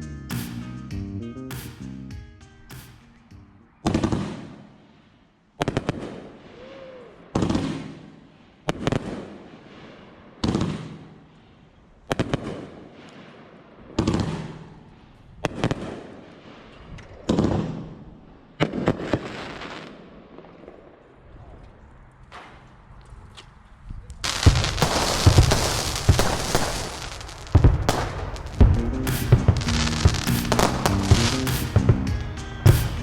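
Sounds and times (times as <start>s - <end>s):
fireworks bangs: 3.8s - 21.6s, 24.2s - 33.0s
fireworks rumble and crackle: 3.8s - 33.0s.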